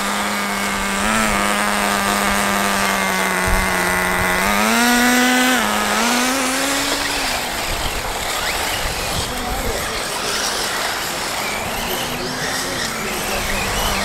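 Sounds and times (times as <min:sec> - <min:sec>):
model car engine buzzing: 0:00.0 - 0:14.0.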